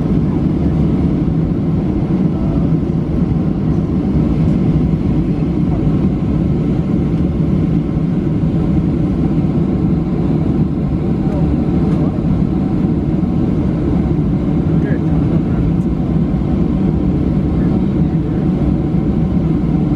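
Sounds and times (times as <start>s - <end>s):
airplane cabin engine drone: 0.0s - 19.9s.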